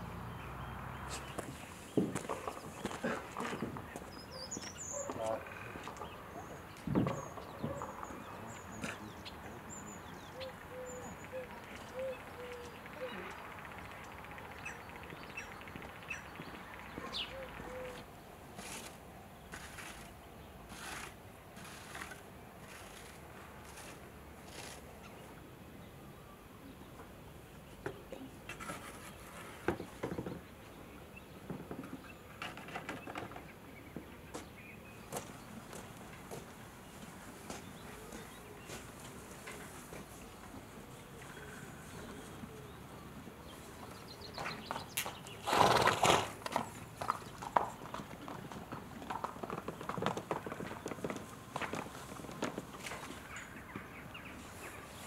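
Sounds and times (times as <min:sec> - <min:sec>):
faint background noise: 0:00.0 - 0:55.0
horse hooves on brick paving: 0:01.0 - 0:09.2, 0:11.5 - 0:24.8, 0:27.8 - 0:55.0.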